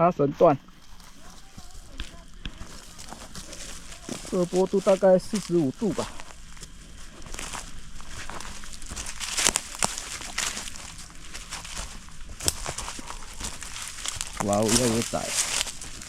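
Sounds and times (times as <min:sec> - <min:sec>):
footsteps crunching through dry leaves: 0:00.6 - 0:16.0
twigs snapping: 0:00.7 - 0:16.0.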